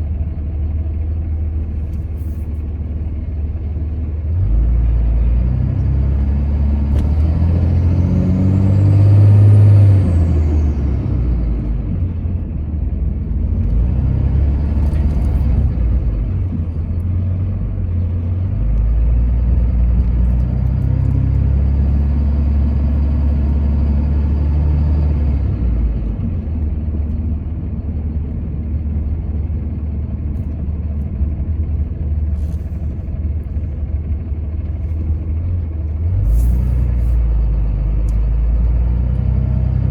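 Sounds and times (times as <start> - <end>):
vehicle rumble on road: 0.0 - 39.9.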